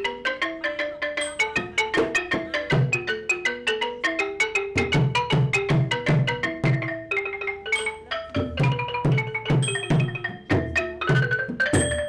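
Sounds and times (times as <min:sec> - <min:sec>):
wooden xylophone melody: 0:00.0 - 0:12.0.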